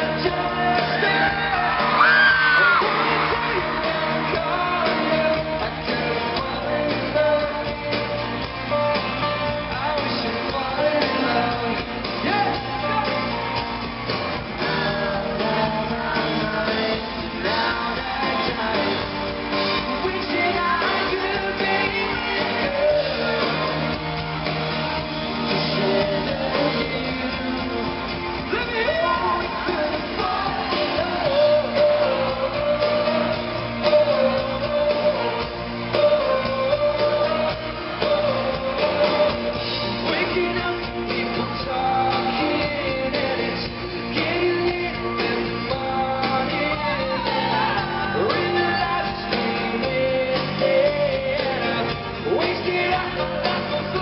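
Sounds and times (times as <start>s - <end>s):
pop-rock band playing live: 0.0s - 54.0s.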